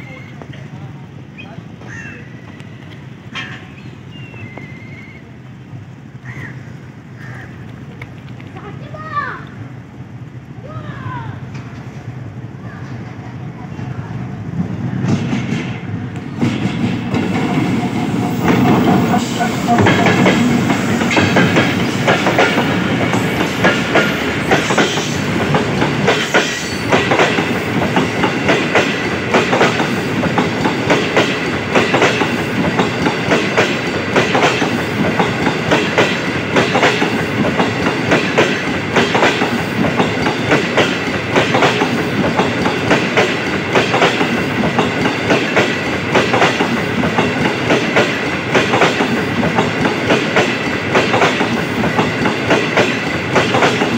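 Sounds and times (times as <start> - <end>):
train wheels rumbling on rails: 0.0 - 53.9
wheels clickety-clack on rail joints: 0.0 - 53.9.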